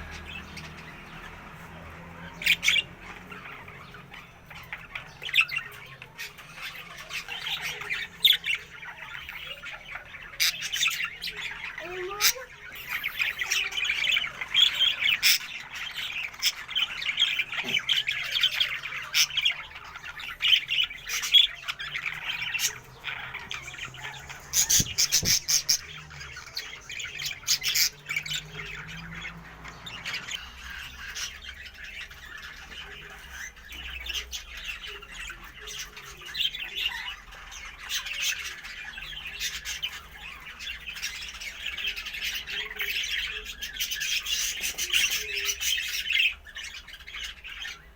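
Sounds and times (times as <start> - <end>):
birds chattering and squawking: 0.0 - 47.9
high bird chirps: 0.0 - 47.9.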